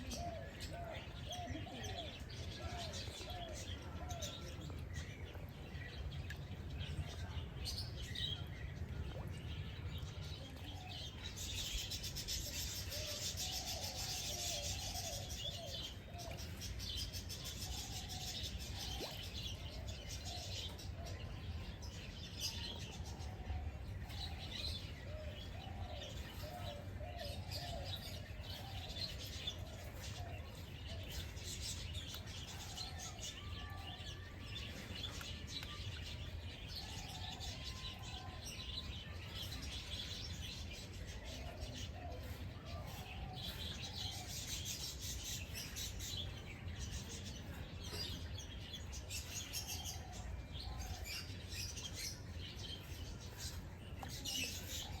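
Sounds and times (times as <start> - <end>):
birds chirping and calling: 0.0 - 8.5, 10.0 - 55.0.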